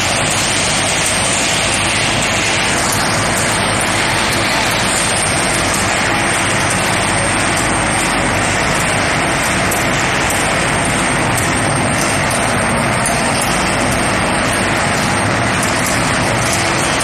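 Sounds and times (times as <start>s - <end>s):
high-pitched whine: 0.0s - 17.0s
induction furnace roaring: 0.0s - 17.0s.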